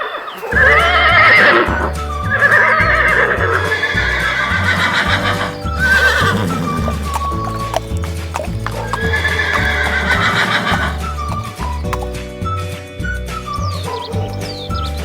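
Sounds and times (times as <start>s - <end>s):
horse whinnying: 0.5s - 12.2s, 13.4s - 15.0s.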